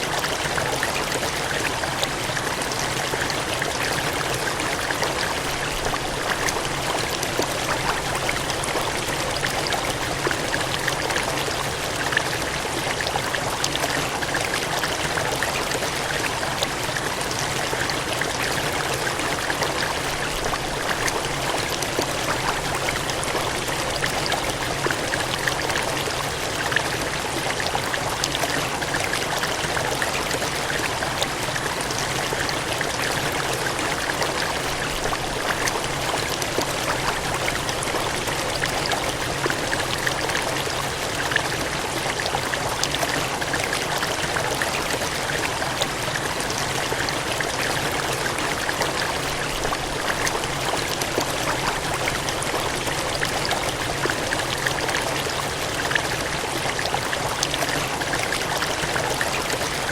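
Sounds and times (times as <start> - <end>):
water gushing: 0.0 - 59.9.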